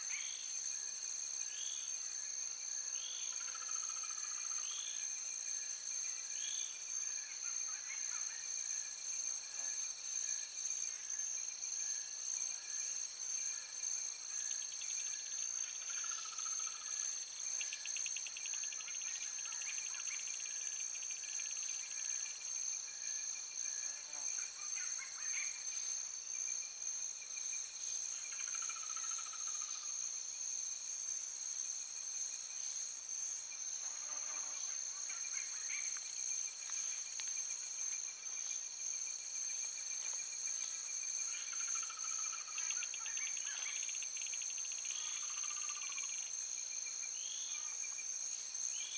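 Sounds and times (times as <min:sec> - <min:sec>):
insects chirping: 0:00.0 - 0:48.9.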